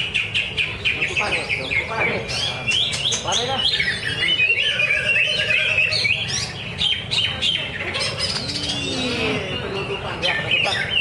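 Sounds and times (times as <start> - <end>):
bird singing chirps and warbles: 0.0 - 11.0.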